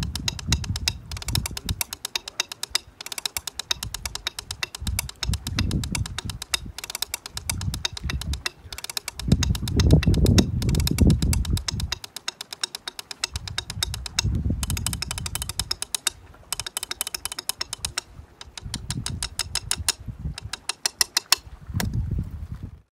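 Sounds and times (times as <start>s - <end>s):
drumsticks clicking on ice: 0.0s - 21.4s.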